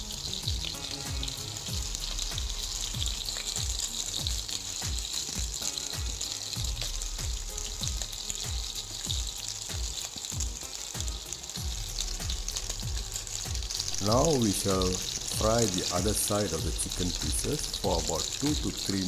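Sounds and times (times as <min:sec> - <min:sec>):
background music with drum beat: 0:00.0 - 0:19.0
chicken sizzling in hot oil: 0:00.0 - 0:19.0.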